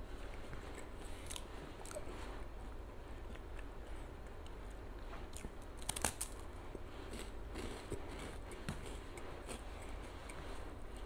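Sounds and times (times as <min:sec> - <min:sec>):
person chewing crisp wafer: 0:00.0 - 0:11.0.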